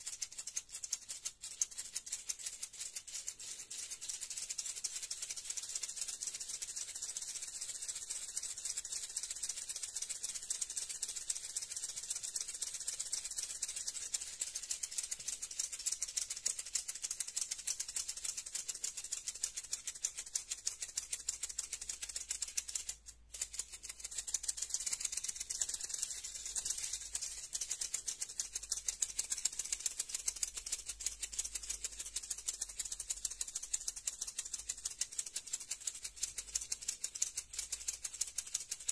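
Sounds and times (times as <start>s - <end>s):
maracas rattling: 0.0s - 38.9s.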